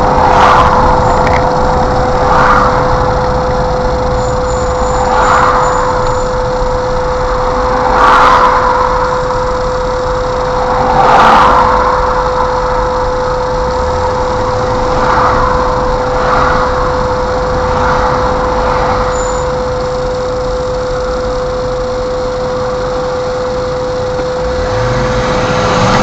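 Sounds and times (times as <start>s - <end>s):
rushing noise: 0.0s - 21.7s, 23.7s - 26.0s
car engine and road noise: 0.0s - 26.0s
constant pitched hum: 0.0s - 26.0s.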